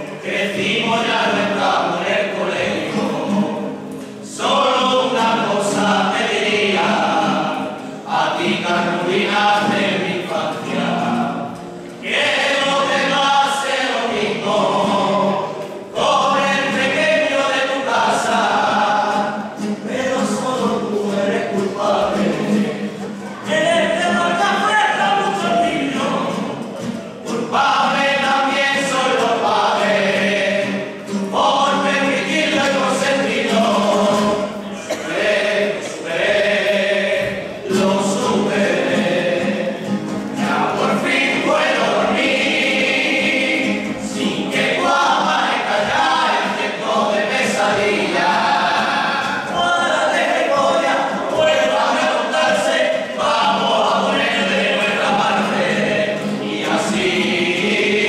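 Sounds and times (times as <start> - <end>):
chorus of voices singing: 0.0 - 58.0.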